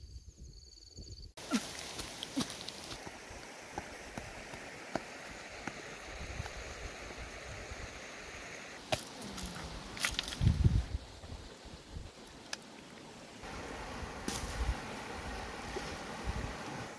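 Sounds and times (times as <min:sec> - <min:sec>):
outdoor background rush: 0:01.4 - 0:16.9.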